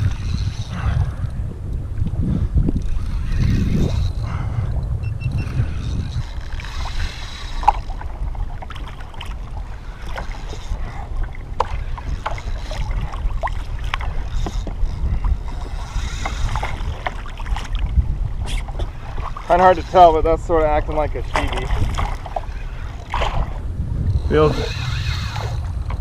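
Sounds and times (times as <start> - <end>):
water lapping against a hull: 0.0 - 26.0
wind buffeting microphone: 0.0 - 26.0.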